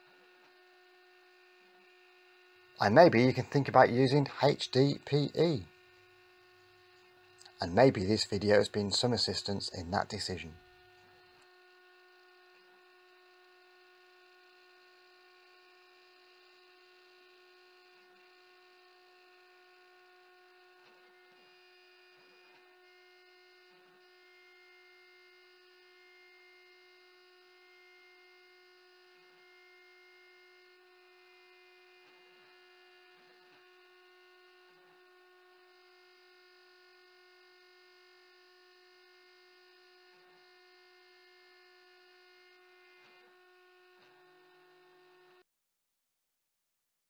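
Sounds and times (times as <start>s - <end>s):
router spindle whine: 0.0s - 45.4s.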